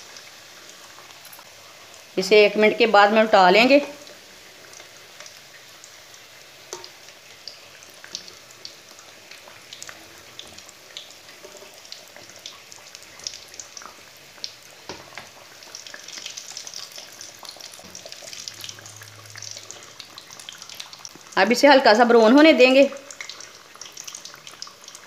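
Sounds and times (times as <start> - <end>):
deep-frying sizzle with pops: 0.0 - 25.0.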